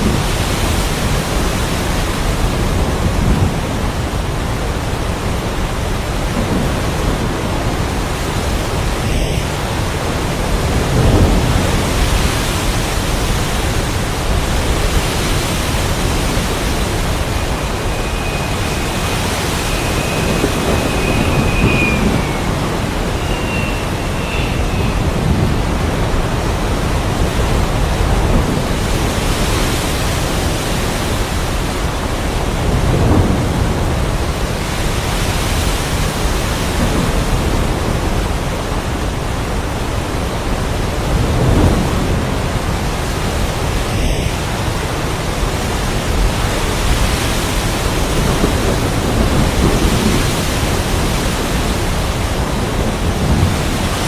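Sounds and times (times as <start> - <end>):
heavy rain: 0.0 - 54.0
low rolls of thunder: 0.0 - 54.0.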